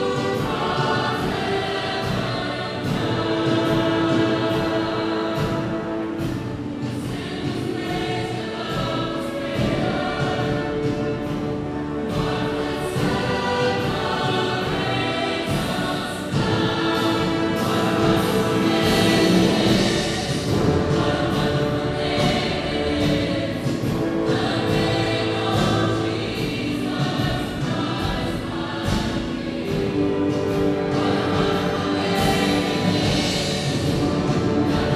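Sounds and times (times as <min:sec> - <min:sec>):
choir singing with accompaniment: 0:00.0 - 0:34.9.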